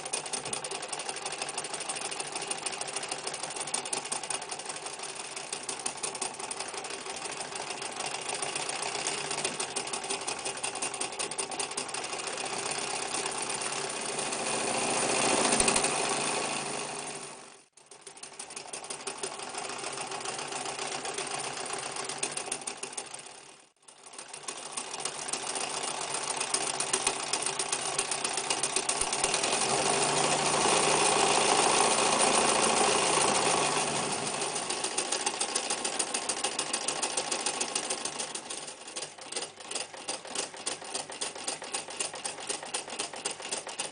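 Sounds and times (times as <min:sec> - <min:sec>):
electric sewing machine stitching: 0:00.0 - 0:43.9.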